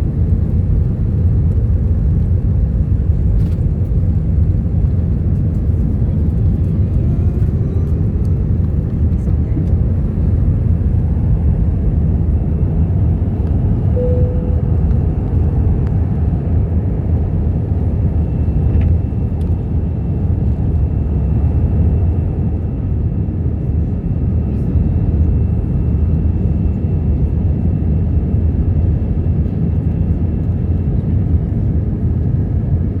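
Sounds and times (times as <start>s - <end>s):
airplane engine rumble: 0.0s - 33.0s.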